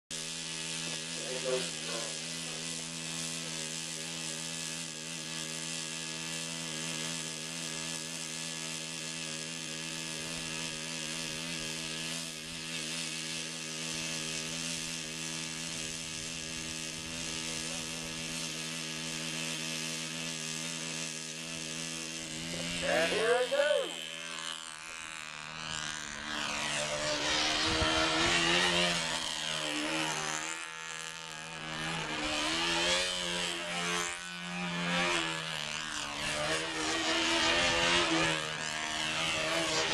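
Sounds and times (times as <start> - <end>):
model airplane engine buzzing: 0.1 - 39.9.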